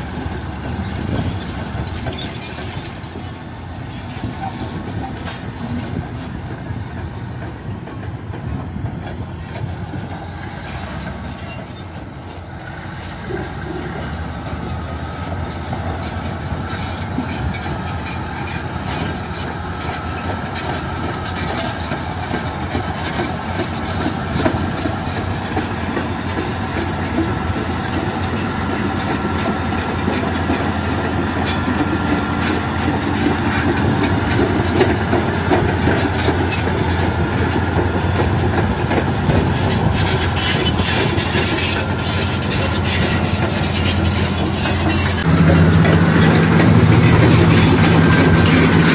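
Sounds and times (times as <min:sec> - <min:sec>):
bulldozer diesel engine: 0:00.0 - 0:48.9
steel tracks clanking: 0:00.0 - 0:48.9.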